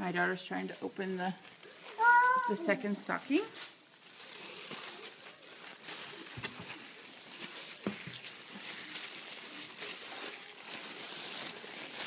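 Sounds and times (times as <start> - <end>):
tissue paper rustling: 0.2 - 12.0.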